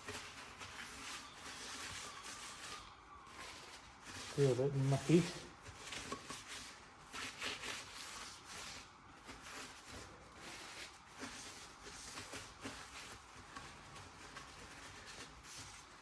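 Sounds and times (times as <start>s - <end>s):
tissue rubbing on steel wheel: 0.0s - 16.0s.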